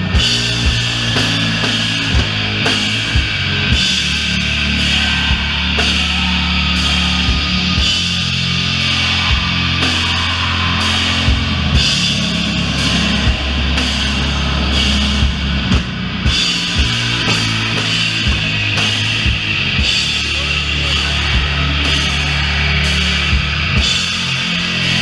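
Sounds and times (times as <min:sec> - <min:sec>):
distorted guitar and bass: 0:00.0 - 0:25.0
drums and ringing cymbals: 0:00.0 - 0:25.0.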